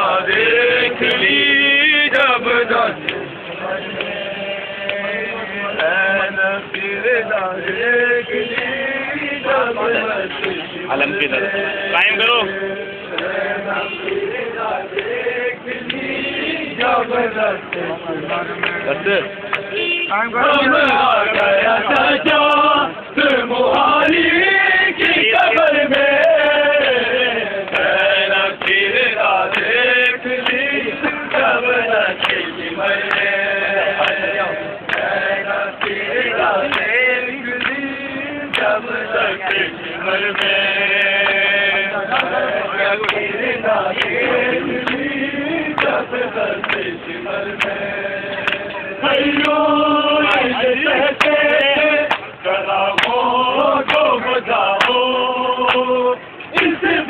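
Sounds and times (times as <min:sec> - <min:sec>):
men chanting a lament in unison: 0:00.0 - 0:57.0.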